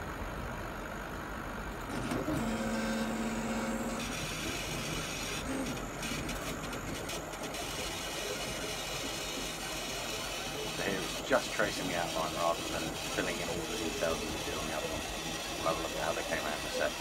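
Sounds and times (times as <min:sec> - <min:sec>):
laser cutter humming: 0:00.0 - 0:17.0
stepper motors whining: 0:00.0 - 0:17.0.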